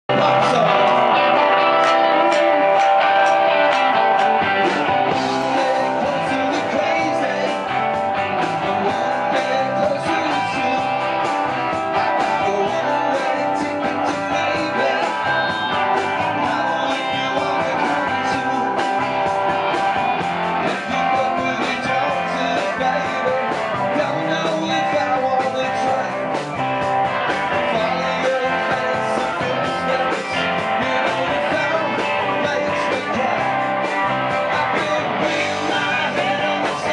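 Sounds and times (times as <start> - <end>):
electric bass: 0.0 - 36.9
electric guitar: 0.0 - 36.9
drum kit: 0.1 - 36.9.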